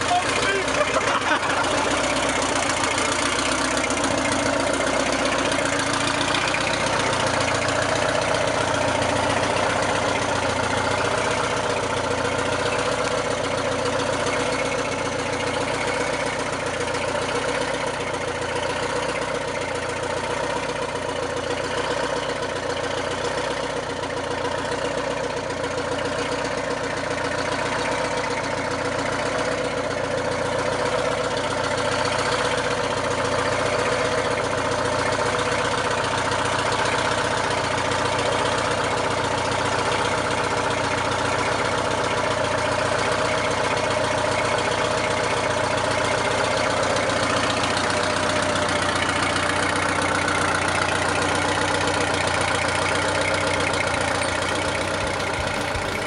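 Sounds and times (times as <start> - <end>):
diesel bus engine idling: 0.0 - 56.0.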